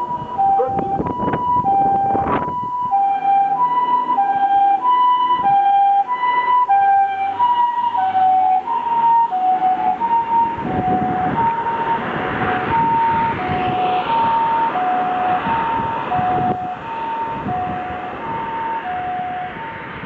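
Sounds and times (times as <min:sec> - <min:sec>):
two-tone ambulance siren: 0:00.0 - 0:20.0
vehicle rumble: 0:00.0 - 0:20.0.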